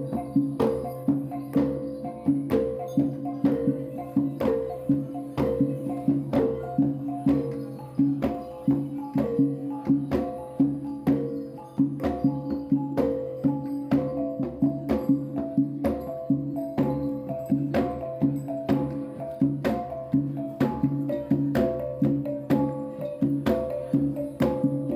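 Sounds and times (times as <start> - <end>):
rhythmic tune of struck notes: 0.0 - 24.9
steady percussion beat: 0.0 - 24.9.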